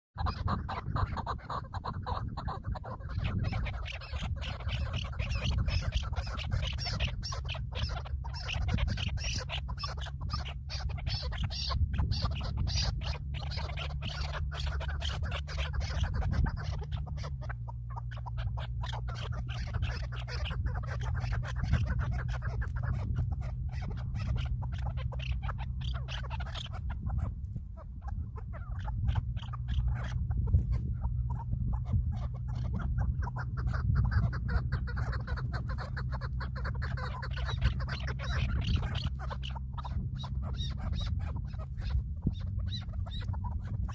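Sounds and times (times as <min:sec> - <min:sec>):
birds squawking: 0:00.2 - 0:43.9
steady low hum: 0:00.2 - 0:43.9.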